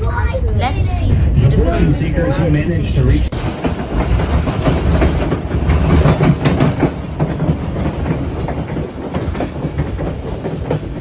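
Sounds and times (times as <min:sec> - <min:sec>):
train wheels clattering over rails: 0:00.0 - 0:02.2, 0:03.4 - 0:11.0
train rumble: 0:00.0 - 0:11.0.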